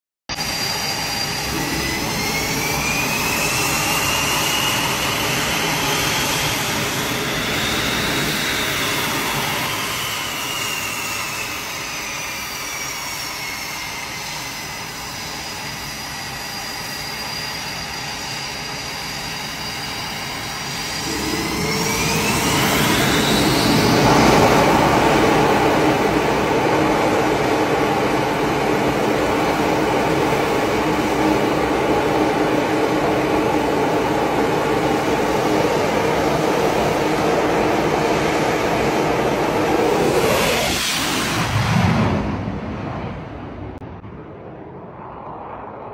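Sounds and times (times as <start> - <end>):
jet engines whining: 0.3 - 45.9.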